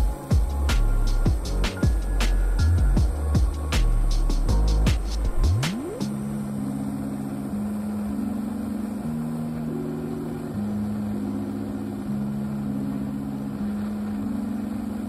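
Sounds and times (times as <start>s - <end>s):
sustained low chords: 0.0s - 14.8s.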